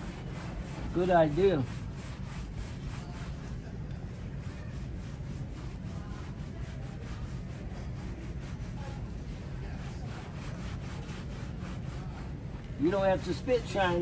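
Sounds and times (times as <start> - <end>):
brush scrubbing leather shoe: 0.0 - 3.5, 4.4 - 14.0.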